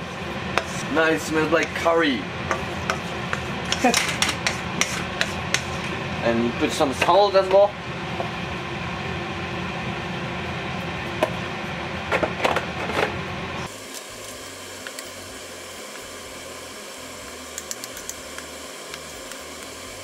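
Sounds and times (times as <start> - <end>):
rushing kitchen noise: 0.0 - 20.0.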